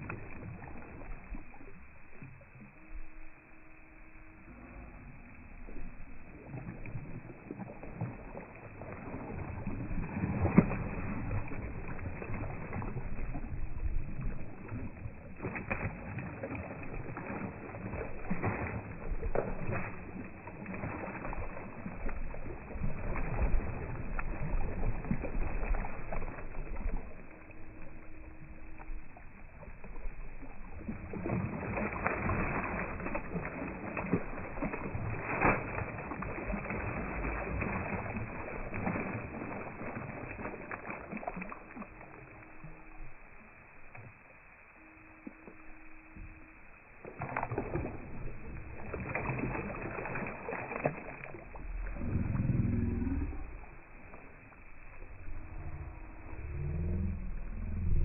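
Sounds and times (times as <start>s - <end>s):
boat rumbling: 0.0s - 58.0s.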